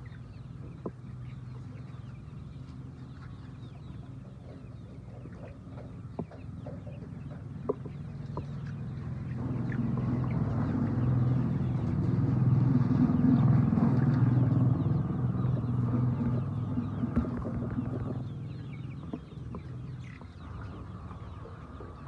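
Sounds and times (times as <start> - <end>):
chickens clucking: 0.0 - 22.0
low engine hum: 0.0 - 22.0.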